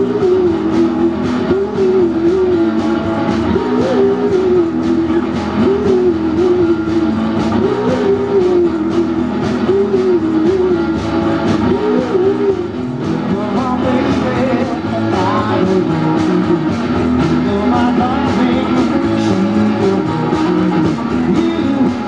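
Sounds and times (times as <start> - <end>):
electric guitars: 0.0 - 22.0
person singing: 0.0 - 22.0
steady drum beat: 0.0 - 22.0.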